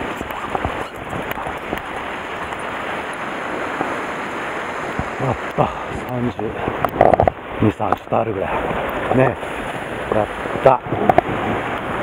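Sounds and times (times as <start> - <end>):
surf breaking over rocks: 0.0 - 12.0.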